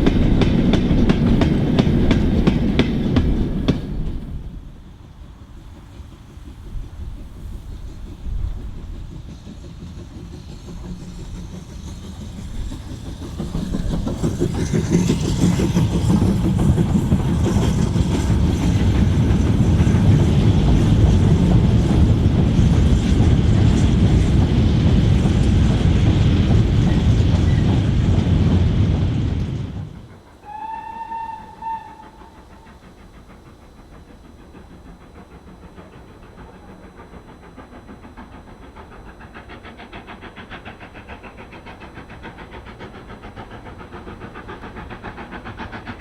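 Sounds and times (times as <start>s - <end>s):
steam train running past: 0.0s - 46.0s.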